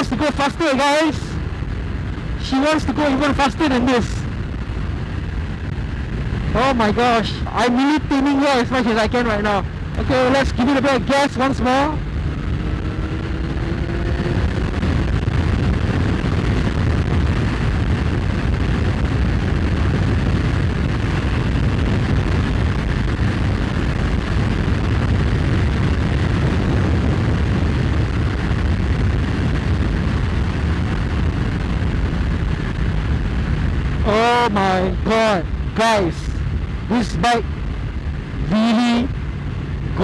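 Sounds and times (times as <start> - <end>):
motorcycle engine under hard throttle: 0.0 - 40.0
wind buffeting microphone: 0.0 - 40.0.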